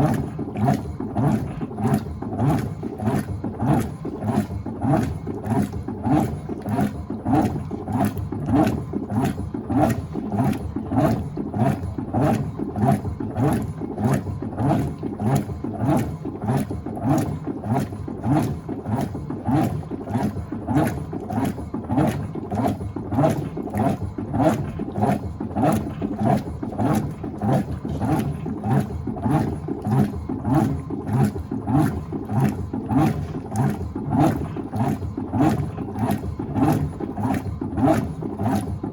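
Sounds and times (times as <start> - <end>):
washing machine agitating water: 0.0 - 38.9.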